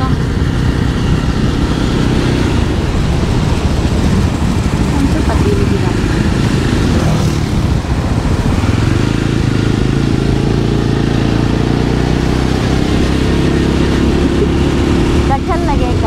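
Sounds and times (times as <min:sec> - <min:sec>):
motorcycle engine running: 0:00.0 - 0:16.0
road and wind rush: 0:00.0 - 0:16.0.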